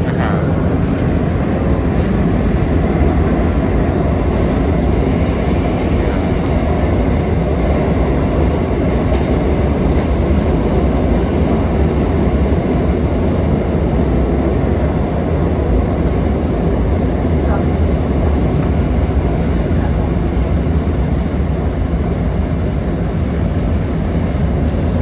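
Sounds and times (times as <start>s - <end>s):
train rumbling through tunnel: 0.0s - 25.0s.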